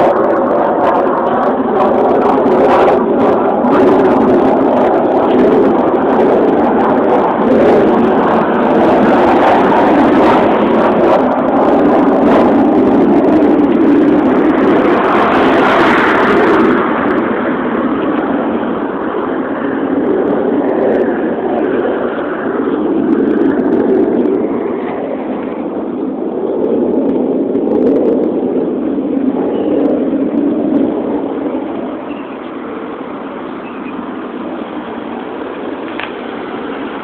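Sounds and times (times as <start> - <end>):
rough droning from sky: 0.0 - 37.0.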